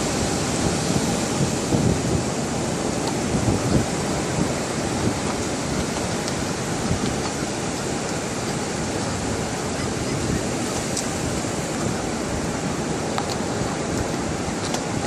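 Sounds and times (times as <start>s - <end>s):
ocean surf washing on beach: 0.0s - 15.0s
wind on microphone: 0.0s - 15.0s.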